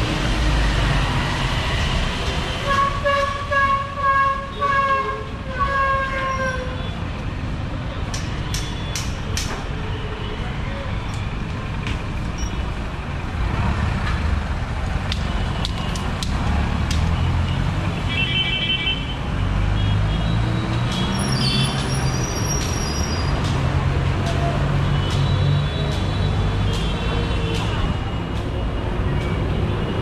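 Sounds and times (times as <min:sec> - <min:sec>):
vehicle engines rumbling: 0:00.0 - 0:30.0.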